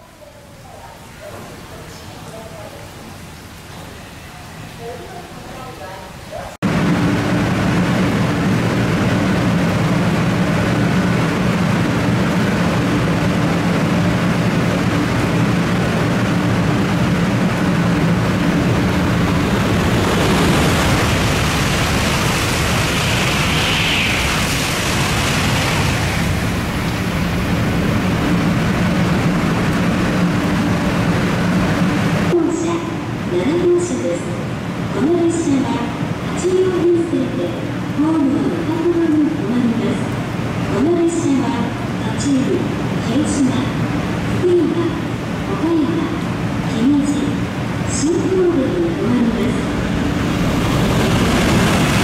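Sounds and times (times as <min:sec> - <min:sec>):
hissing rush of passing train: 0:00.0 - 0:52.0
train rumble and hum: 0:06.6 - 0:52.0.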